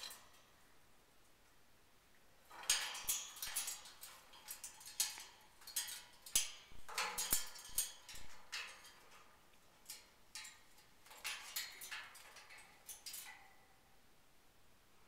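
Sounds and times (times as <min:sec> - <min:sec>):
parrot climbing in wire cage: 0:00.0 - 0:00.7, 0:02.4 - 0:13.8.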